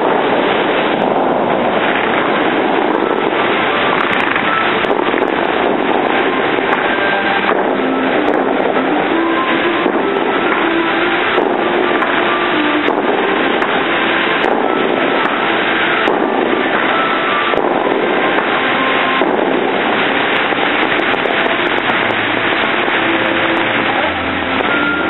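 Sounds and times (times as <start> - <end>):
fountain water jets spraying: 0.0 - 25.0.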